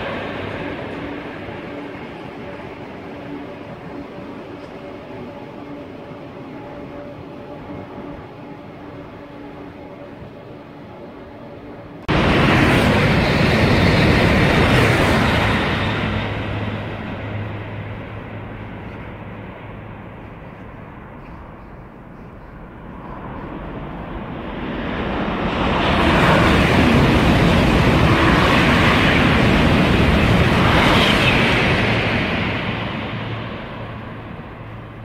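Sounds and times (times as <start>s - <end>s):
high-speed train roaring: 0.0s - 35.0s
passing train rushing: 0.0s - 35.0s.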